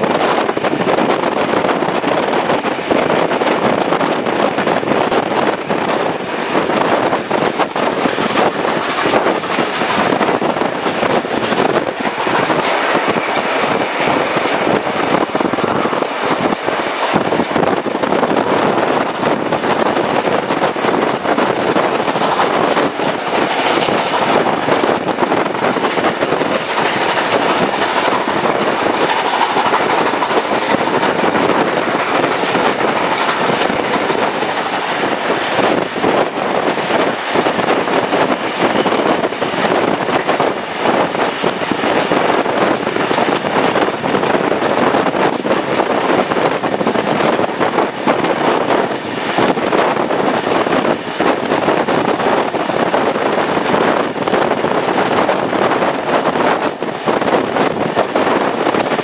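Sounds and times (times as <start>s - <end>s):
rushing air and rolling noise: 0.0s - 59.0s
train wheels clicking on rails: 0.0s - 59.0s.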